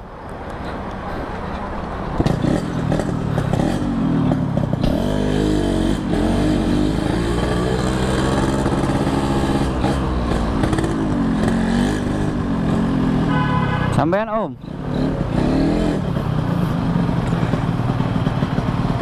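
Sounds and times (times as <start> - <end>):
two-stroke motorcycle engine revving: 2.2 - 13.7, 14.6 - 19.0.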